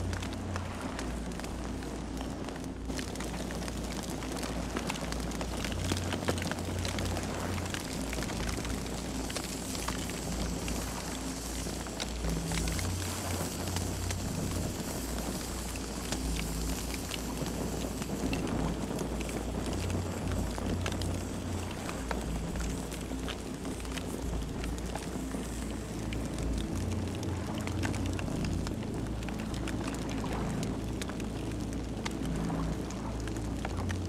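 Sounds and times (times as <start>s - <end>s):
campfire crackling and popping: 0.0s - 34.0s
low rumble of fire: 0.0s - 34.0s.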